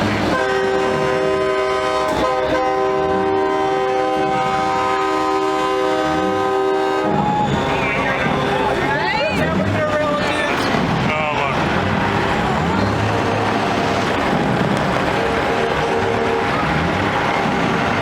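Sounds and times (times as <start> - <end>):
multi-tone air horn blasting: 0.0 - 9.7, 11.6 - 18.0.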